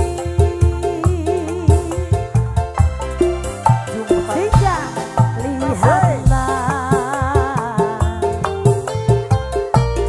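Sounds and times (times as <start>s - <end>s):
drum beats: 0.0s - 10.0s
live band music: 0.0s - 10.0s.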